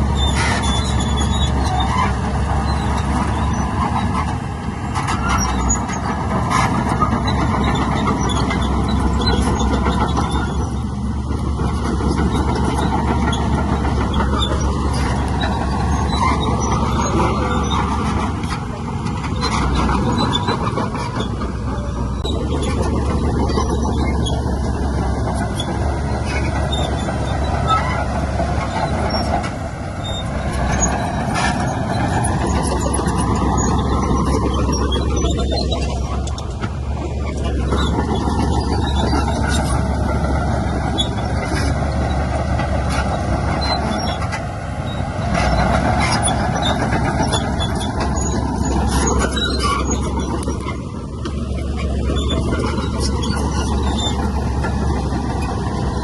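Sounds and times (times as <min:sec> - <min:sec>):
diesel machinery engine under load: 0:00.0 - 0:56.0.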